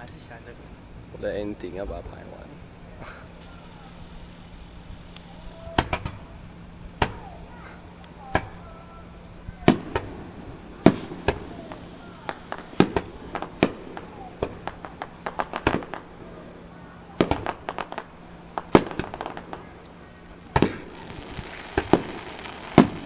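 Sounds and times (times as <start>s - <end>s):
fireworks bursting: 1.2s - 23.0s.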